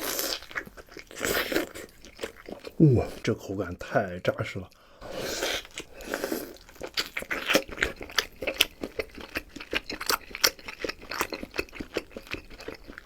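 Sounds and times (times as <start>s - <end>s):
close chewing with mouth clicks: 0.0s - 3.2s, 4.7s - 13.0s.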